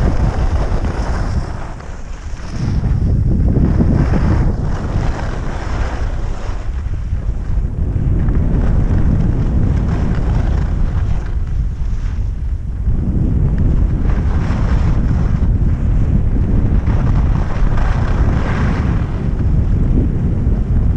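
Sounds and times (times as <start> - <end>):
wind rushing over microphone: 0.0 - 20.9.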